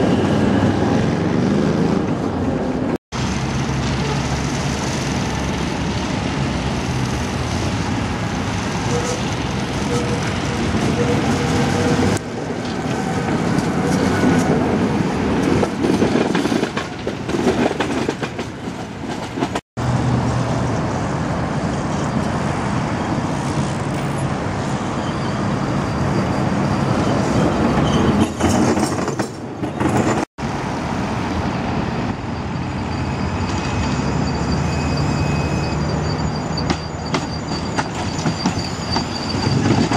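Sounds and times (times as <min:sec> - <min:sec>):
city traffic: 0:00.0 - 0:39.9
trams rumbling on track: 0:00.0 - 0:39.9.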